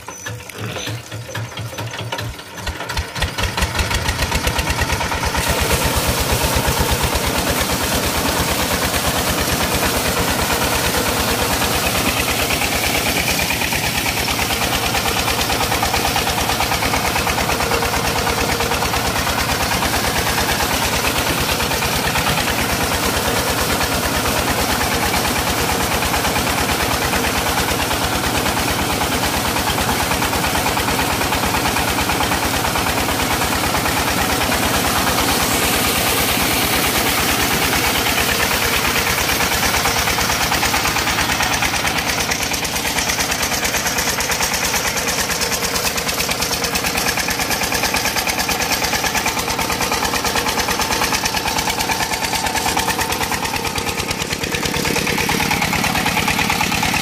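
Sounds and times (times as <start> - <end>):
water gushing from pipe: 0.0 - 57.0.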